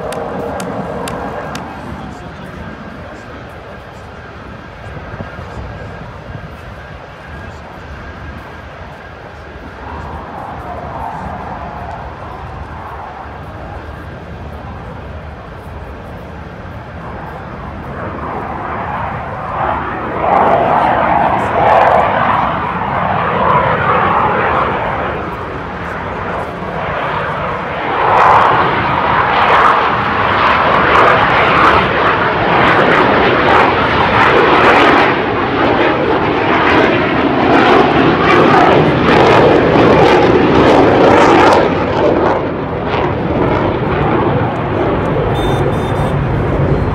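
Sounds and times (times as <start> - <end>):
fighter jet roar: 0.0 - 46.9.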